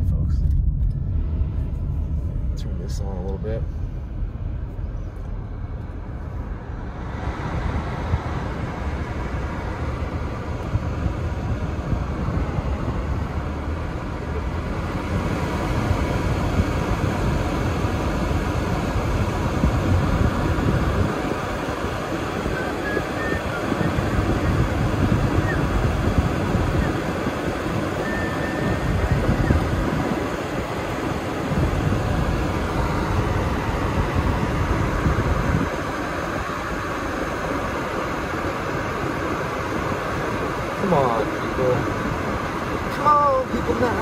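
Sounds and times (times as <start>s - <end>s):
car cabin rushing noise: 0.2s - 44.0s.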